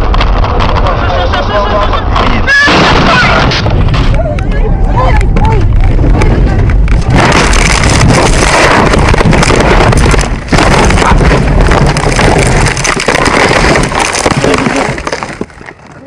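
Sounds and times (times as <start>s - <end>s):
rushing wind on microphone: 0.0s - 16.0s.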